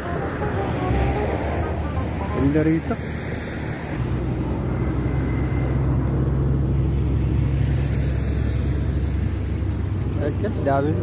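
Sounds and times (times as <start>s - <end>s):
road traffic drone: 0.0s - 11.0s.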